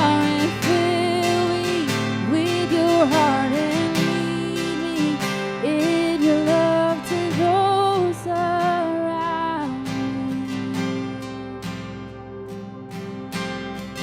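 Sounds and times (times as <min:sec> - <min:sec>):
person singing with vibrato: 0:00.0 - 0:11.4
strummed acoustic guitar: 0:00.0 - 0:14.0.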